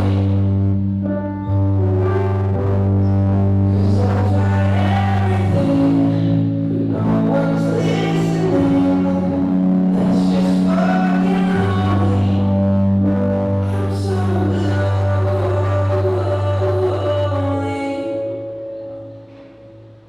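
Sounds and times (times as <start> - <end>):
person singing: 0.0 - 19.1
long held bass notes: 0.0 - 20.0.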